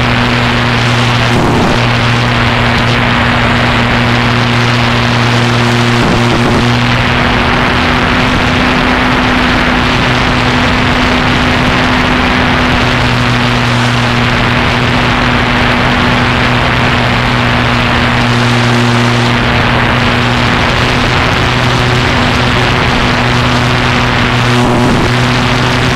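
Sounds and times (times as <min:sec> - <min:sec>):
propeller aircraft motor: 0:00.0 - 0:25.9
rushing wind noise: 0:00.0 - 0:25.9.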